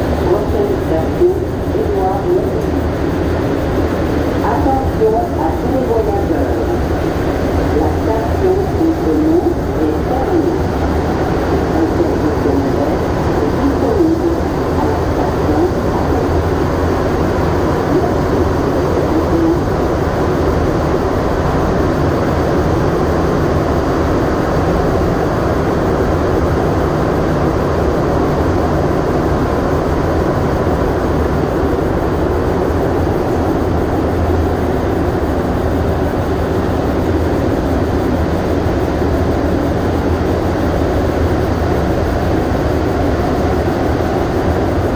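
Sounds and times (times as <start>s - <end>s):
metro train running in tunnel: 0.0s - 44.9s.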